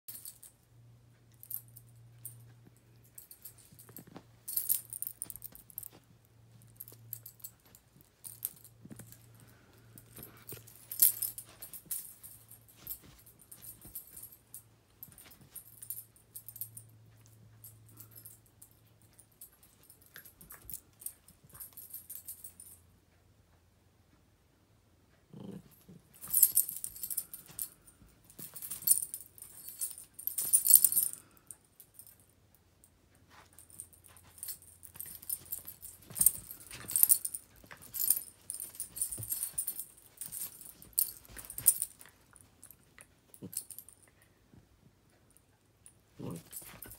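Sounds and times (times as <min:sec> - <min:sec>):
dog collar tags jingling: 0:00.1 - 0:00.7, 0:01.3 - 0:22.8, 0:25.4 - 0:32.3, 0:33.3 - 0:44.3, 0:45.3 - 0:46.9.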